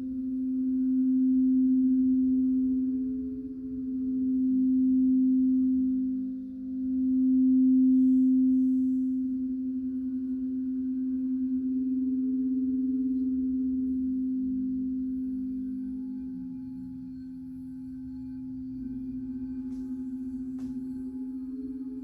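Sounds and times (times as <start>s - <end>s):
singing bowl low tone: 0.0s - 22.0s.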